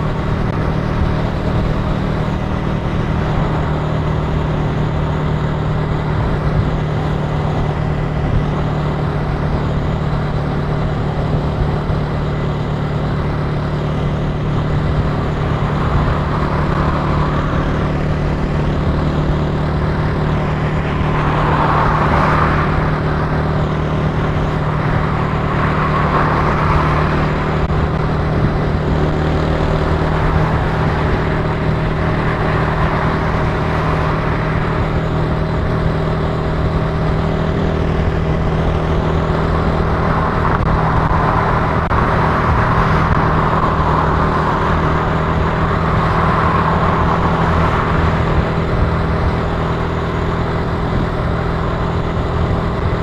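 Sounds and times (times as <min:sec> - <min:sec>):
motorcycle engine running: 0:00.0 - 0:53.0
road noise: 0:00.0 - 0:53.0
rushing noise: 0:00.0 - 0:53.0
wind noise: 0:00.0 - 0:53.0.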